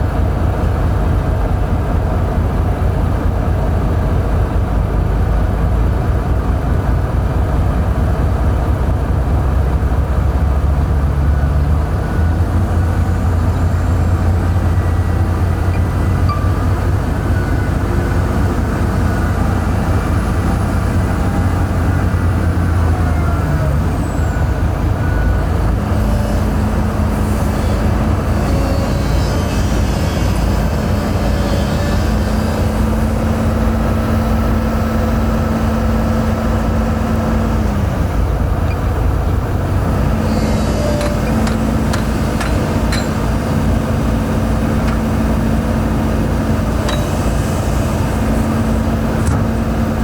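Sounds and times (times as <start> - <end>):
heavy diesel engine droning: 0.0 - 50.0.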